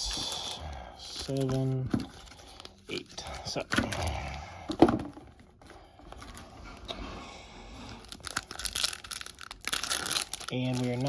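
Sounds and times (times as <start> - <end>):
foil wrappers crinkling and tearing: 0.0 - 4.4, 6.1 - 11.0.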